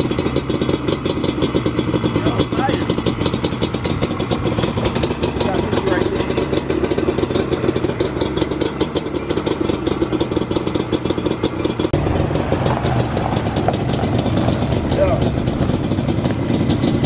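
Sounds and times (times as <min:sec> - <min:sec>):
two-stroke engine idling: 0:00.0 - 0:17.0.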